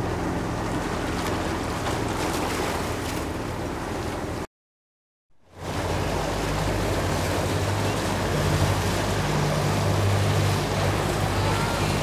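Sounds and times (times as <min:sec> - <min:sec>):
boat motor humming: 0:00.0 - 0:04.5, 0:05.4 - 0:12.0
water noise: 0:00.0 - 0:04.5, 0:05.4 - 0:12.0
wind: 0:00.0 - 0:04.5, 0:05.3 - 0:12.0.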